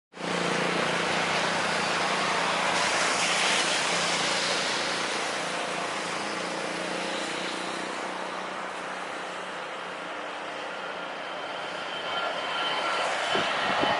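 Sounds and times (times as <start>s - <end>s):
jet engines rushing: 0.2s - 13.9s.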